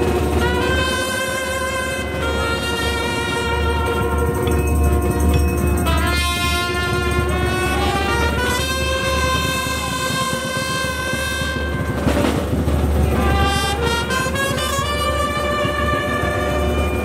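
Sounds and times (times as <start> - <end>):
brass band playing held chords: 0.0 - 17.0
drums beating: 0.0 - 17.0.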